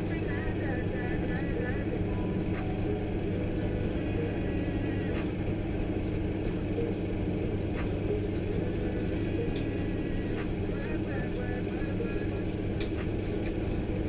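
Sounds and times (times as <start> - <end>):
low machine hum and rumble: 0.0 - 14.0.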